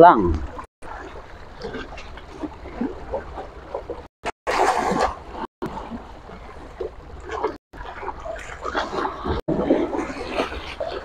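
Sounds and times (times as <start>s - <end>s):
choppy sea water splashing: 0.1s - 11.0s.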